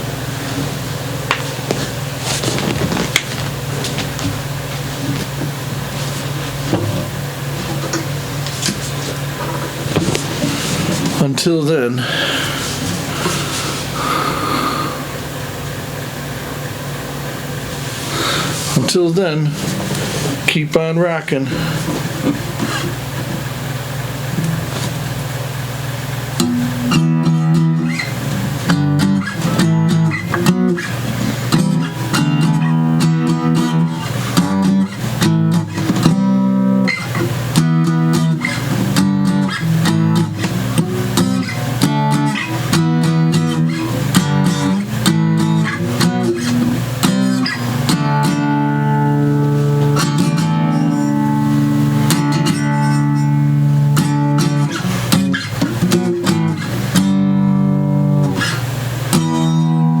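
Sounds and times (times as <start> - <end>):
guitar strumming chords: 0.0 - 60.0.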